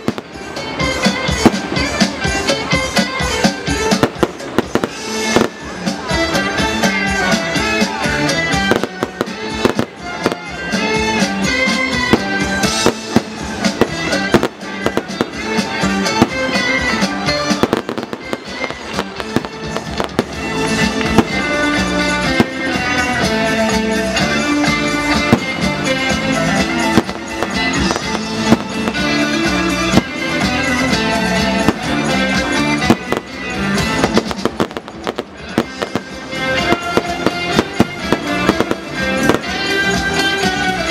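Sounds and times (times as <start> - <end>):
fireworks bangs and crackles: 0.0 - 40.9
loud music: 0.0 - 40.9.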